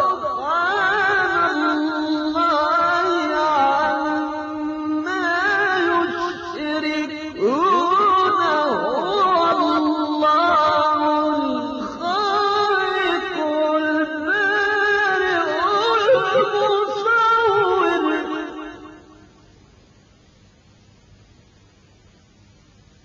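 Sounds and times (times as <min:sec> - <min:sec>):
man chanting a recitation: 0:00.0 - 0:18.9
faint hiss: 0:00.0 - 0:23.0.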